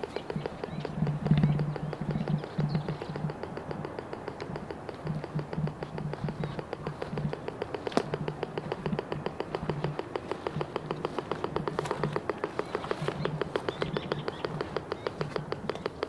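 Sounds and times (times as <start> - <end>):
low hum: 0.0 - 16.0
metal detector ticking: 0.0 - 16.0
sharp click: 0.0 - 16.0.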